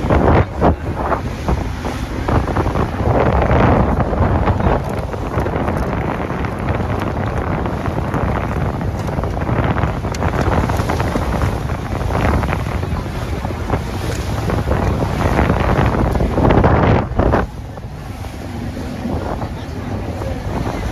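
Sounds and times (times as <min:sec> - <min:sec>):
boat engine: 0:00.0 - 0:20.9
water rushing past boat: 0:00.0 - 0:20.9
wind buffeting microphone: 0:00.0 - 0:20.9.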